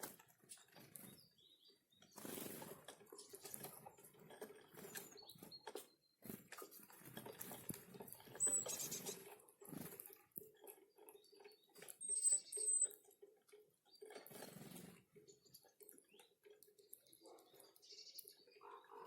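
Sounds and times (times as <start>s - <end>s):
small clicks and rustles: 0.0s - 18.6s
small birds calling: 0.0s - 19.0s.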